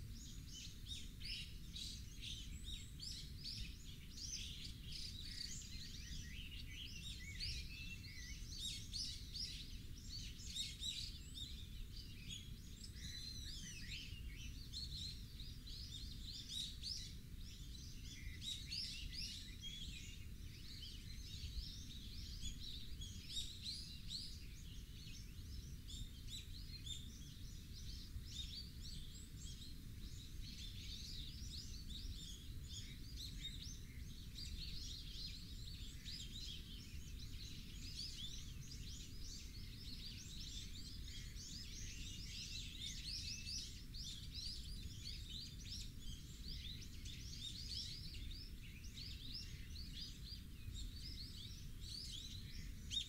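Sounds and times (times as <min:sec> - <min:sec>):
birds chirping: 0:00.2 - 0:53.0.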